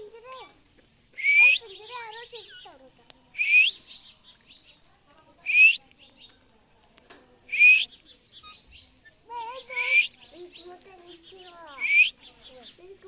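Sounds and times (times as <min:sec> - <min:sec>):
faint chirping: 0:00.0 - 0:06.6, 0:07.4 - 0:13.0.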